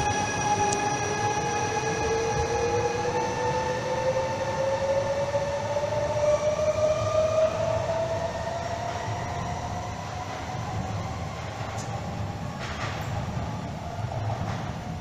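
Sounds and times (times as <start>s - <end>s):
train traction motor whine: 0.0s - 15.0s
wheels rumbling on rail: 0.0s - 15.0s.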